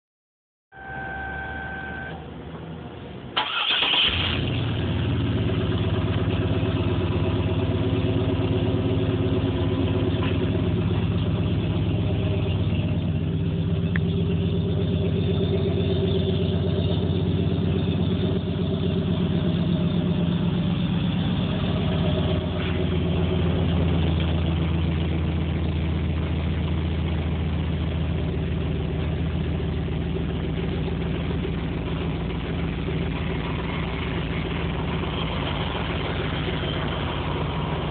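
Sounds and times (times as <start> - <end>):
truck engine starting and idling: 0.8 - 37.9.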